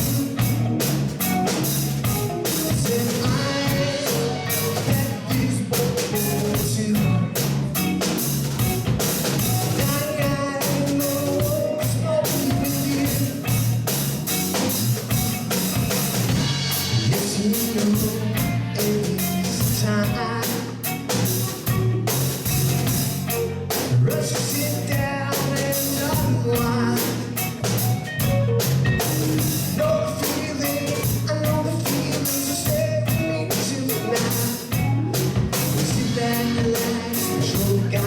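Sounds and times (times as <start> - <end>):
bass guitar: 0.0 - 38.0
drums: 0.0 - 38.0.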